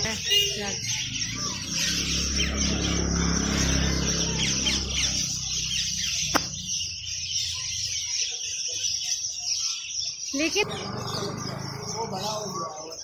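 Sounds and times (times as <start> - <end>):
parakeets chirping and calling: 0.0 - 13.0.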